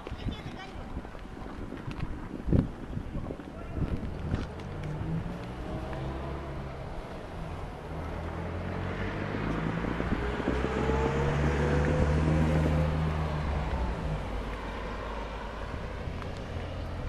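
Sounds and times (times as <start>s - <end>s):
wind on microphone: 0.0s - 17.0s
vehicle engine hum: 3.2s - 17.0s.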